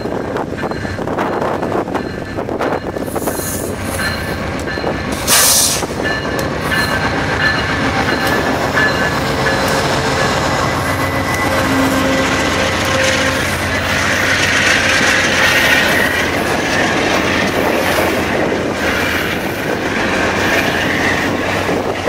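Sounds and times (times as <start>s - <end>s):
passenger train rumbling past: 0.0s - 22.0s.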